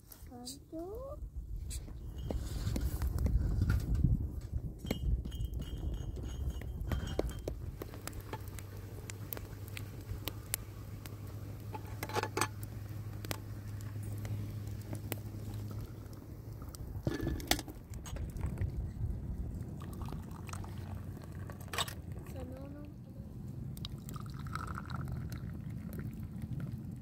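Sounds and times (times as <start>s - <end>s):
wood fire crackling: 1.6s - 27.0s.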